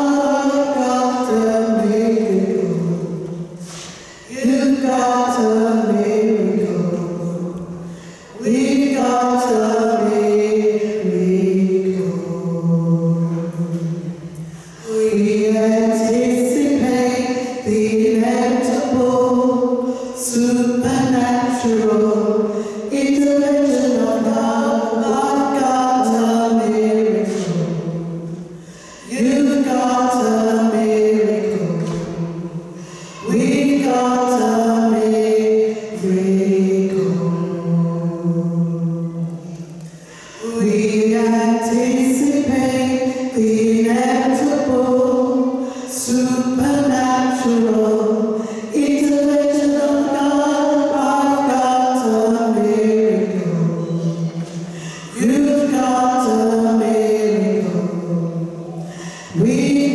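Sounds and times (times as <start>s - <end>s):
women singing gospel unaccompanied: 0.0s - 59.9s.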